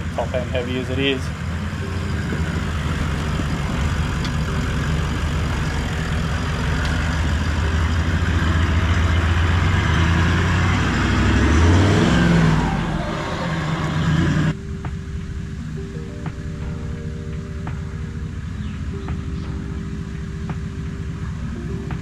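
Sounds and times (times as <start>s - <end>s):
off-road vehicle engine pulling: 0.0s - 22.0s.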